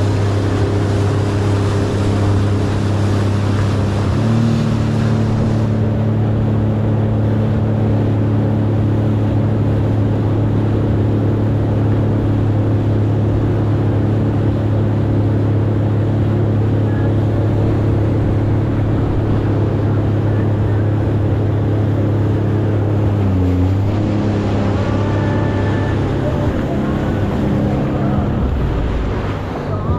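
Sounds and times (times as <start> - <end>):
jet ski engine droning: 0.0 - 29.9
rushing wind and water: 0.0 - 29.9.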